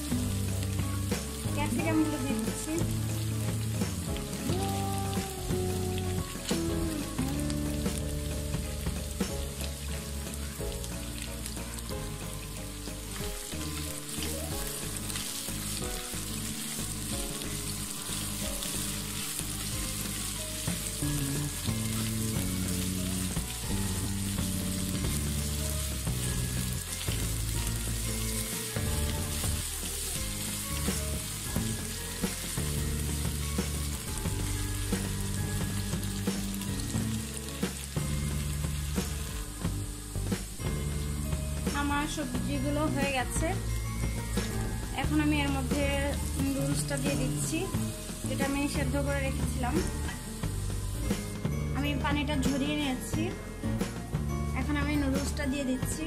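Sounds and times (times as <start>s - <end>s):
background music with low notes: 0.0s - 56.0s
food sizzling in a pan: 0.0s - 56.0s.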